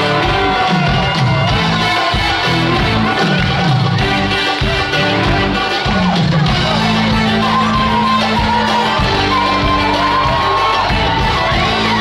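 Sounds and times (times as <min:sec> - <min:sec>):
crowd cheering and shouting: 0:00.0 - 0:12.0
live popular music over loudspeakers: 0:00.0 - 0:12.0.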